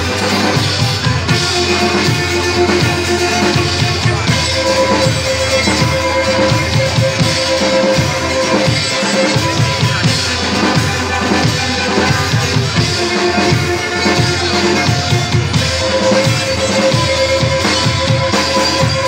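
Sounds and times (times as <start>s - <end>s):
drum kit beat: 0.0s - 19.0s
live band playing: 0.0s - 19.0s
violin melody: 0.0s - 19.0s.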